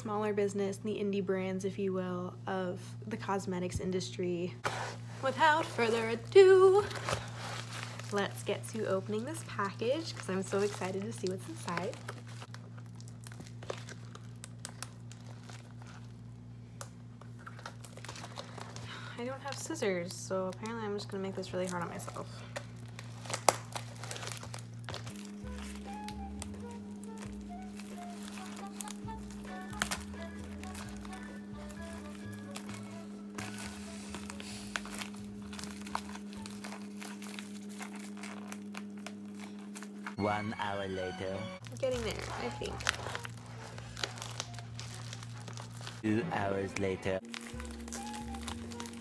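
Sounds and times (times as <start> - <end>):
quiet background music: 0.0 - 49.0
plastic mailer crinkling: 4.7 - 40.2, 41.6 - 46.0, 47.2 - 49.0.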